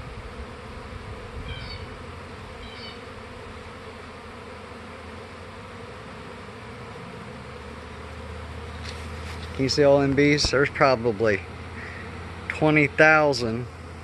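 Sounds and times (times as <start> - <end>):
honey bees humming in flight: 0.0 - 14.0.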